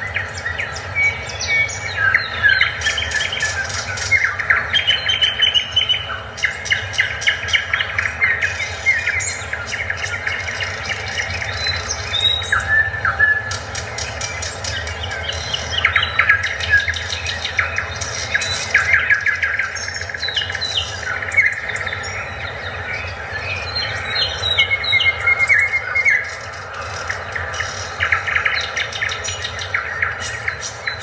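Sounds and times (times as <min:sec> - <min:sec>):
birds chirping and trilling: 0:00.0 - 0:31.0.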